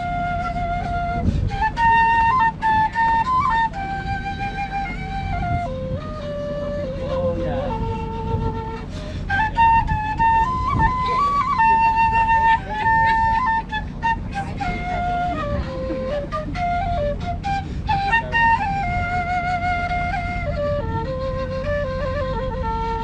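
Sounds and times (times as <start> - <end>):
steady low rumble: 0.0 - 23.0
wind instrument slow melody: 0.0 - 23.0.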